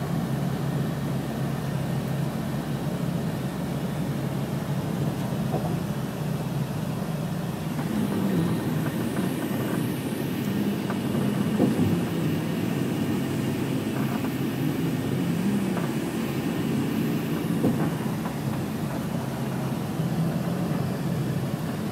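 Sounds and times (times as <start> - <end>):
car engine hum and road noise: 0.0 - 21.9.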